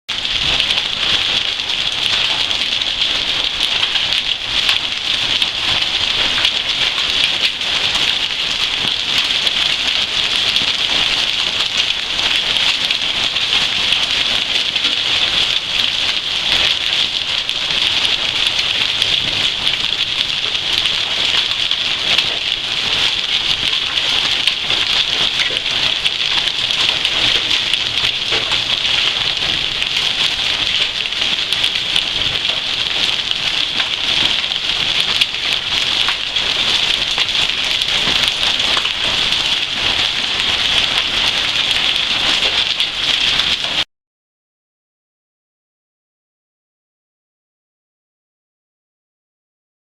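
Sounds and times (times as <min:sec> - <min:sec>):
hail clattering on hard surfaces: 0:00.1 - 0:43.8.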